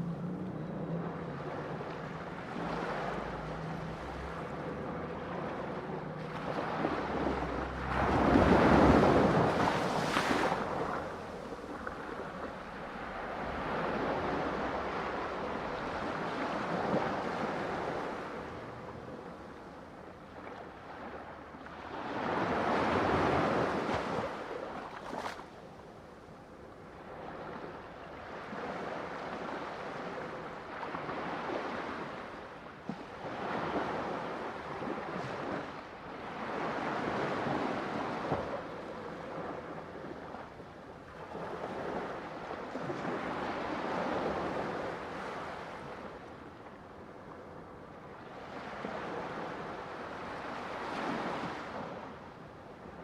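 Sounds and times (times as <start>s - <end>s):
ocean waves breaking: 0.0s - 25.7s, 26.8s - 53.0s.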